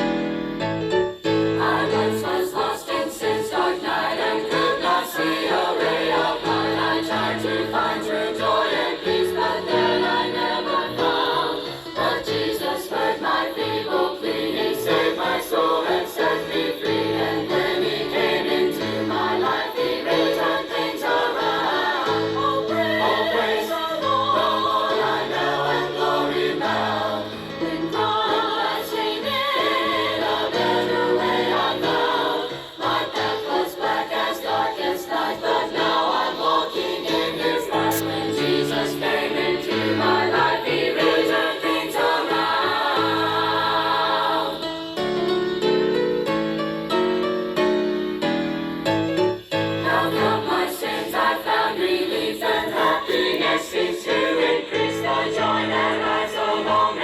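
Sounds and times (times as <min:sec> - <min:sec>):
choir singing a hymn: 0:00.0 - 0:48.6, 0:49.4 - 0:57.0
piano: 0:00.0 - 0:57.0.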